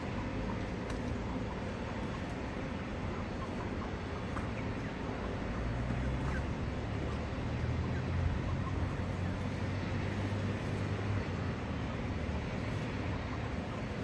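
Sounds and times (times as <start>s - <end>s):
chickens clucking: 0.0s - 14.0s
low engine drone: 0.0s - 14.0s
outdoor noise: 0.0s - 14.0s.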